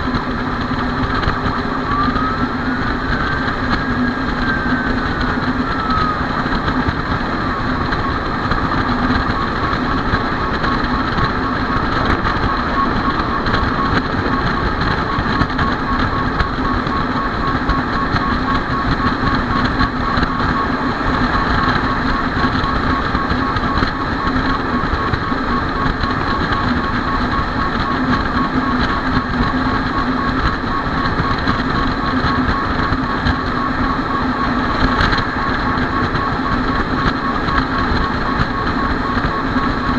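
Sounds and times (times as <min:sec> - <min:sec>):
descending siren tone: 0:00.0 - 0:39.9
fast pulsing siren tone: 0:00.0 - 0:39.9
fire engine idling: 0:00.0 - 0:39.9.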